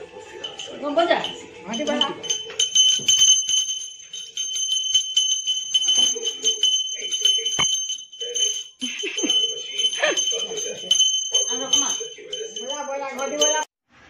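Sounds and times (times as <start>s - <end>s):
small hand bell ringing rapidly: 0.2s - 13.8s.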